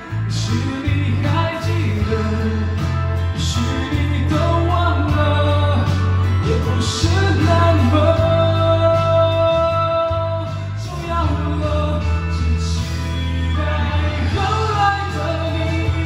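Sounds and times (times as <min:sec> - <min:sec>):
guitar: 0:00.0 - 0:16.0
person singing: 0:00.0 - 0:16.0
steady bass line: 0:00.0 - 0:16.0.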